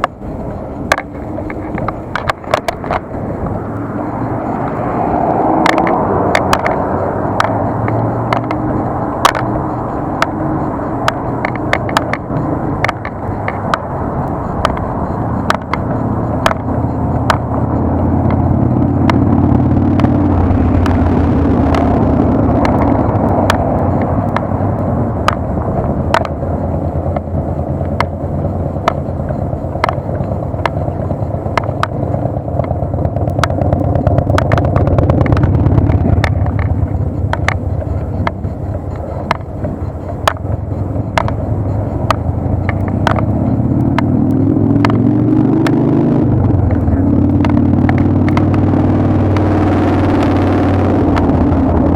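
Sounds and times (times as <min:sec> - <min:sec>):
bike rattling over bumps: 0:00.0 - 0:51.9
rising hum: 0:00.0 - 0:51.9
tyre rumble on road: 0:00.0 - 0:51.9
wind buffeting: 0:00.0 - 0:51.9.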